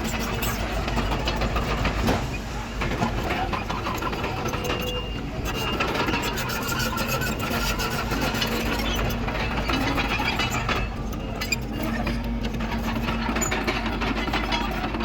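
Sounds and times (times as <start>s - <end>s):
bulldozer diesel engine running: 0.0s - 15.0s
steel tracks rattling: 0.0s - 15.0s.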